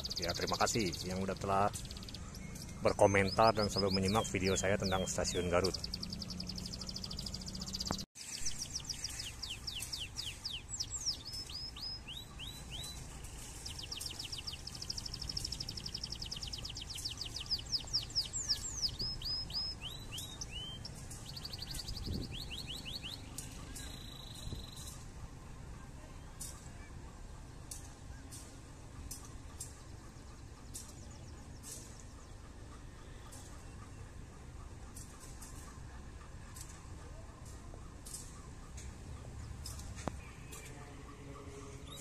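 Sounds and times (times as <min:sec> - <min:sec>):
small birds chirping trills: 0:00.0 - 0:42.0.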